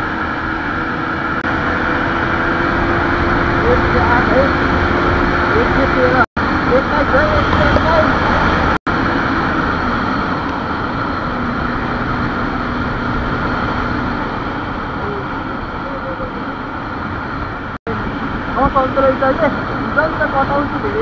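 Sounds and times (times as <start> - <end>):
motorcycle riding at speed: 0.0 - 21.0
wind rushing over microphone: 0.0 - 21.0.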